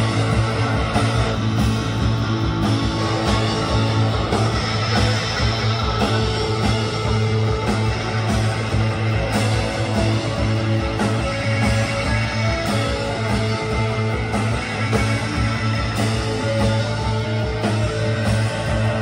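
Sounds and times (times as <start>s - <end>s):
guitars: 0.0s - 19.0s
live rock band playing: 0.0s - 19.0s
low bass line: 0.0s - 19.0s.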